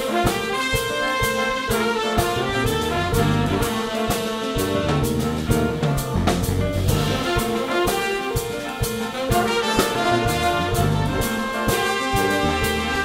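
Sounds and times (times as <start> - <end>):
jazz big band playing: 0.0 - 13.0.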